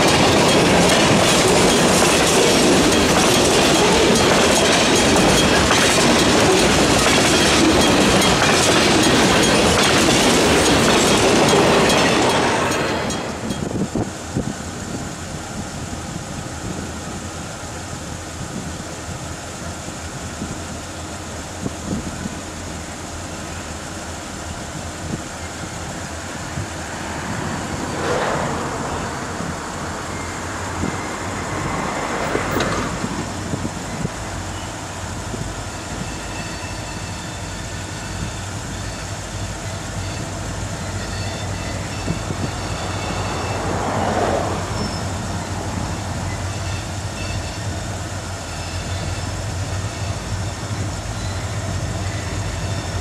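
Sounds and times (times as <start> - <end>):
diesel locomotive engines droning: 0.0 - 53.0.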